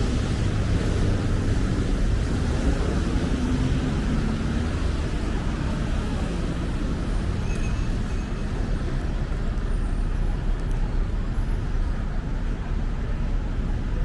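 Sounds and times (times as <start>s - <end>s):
city traffic noise: 0.0s - 14.0s
low engine hum: 0.0s - 14.0s.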